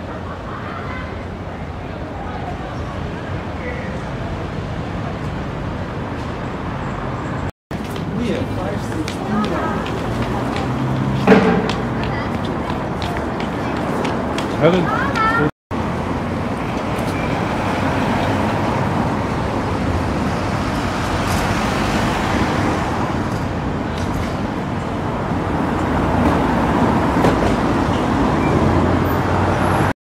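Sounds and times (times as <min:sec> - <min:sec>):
cars and bus driving past: 0:00.0 - 0:29.9.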